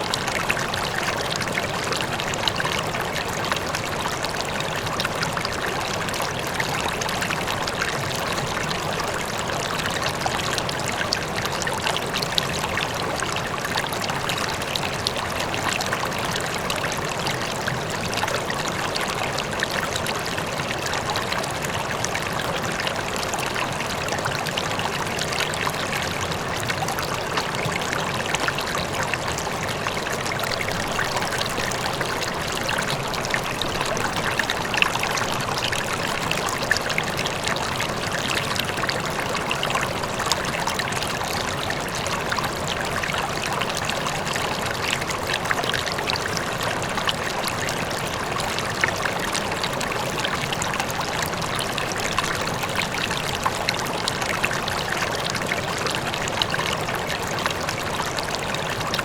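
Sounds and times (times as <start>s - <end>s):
faint distant waterfall: 0.0s - 59.0s
river water flowing: 0.0s - 59.0s.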